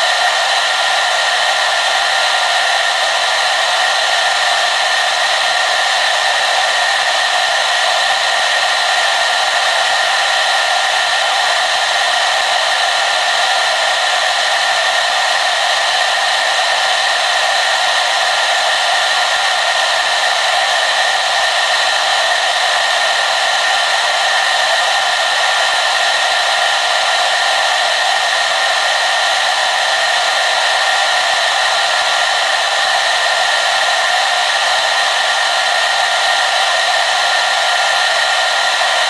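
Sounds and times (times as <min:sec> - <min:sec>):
hair dryer running: 0:00.0 - 0:39.0.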